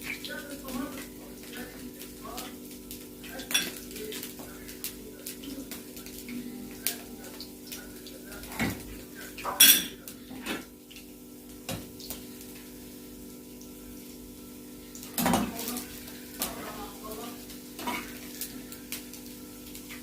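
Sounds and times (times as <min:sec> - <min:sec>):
dough frying in oil: 0:00.0 - 0:20.0.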